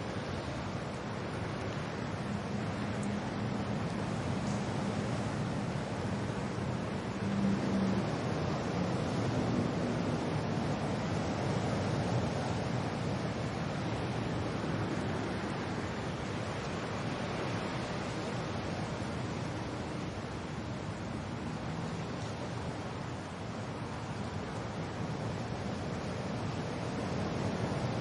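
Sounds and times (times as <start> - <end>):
rain with wind: 0.0 - 28.0.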